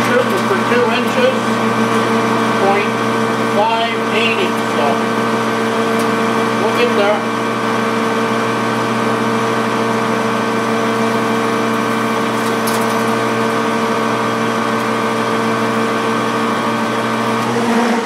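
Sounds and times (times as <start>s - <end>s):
metal lathe motor whine: 0.0s - 18.0s.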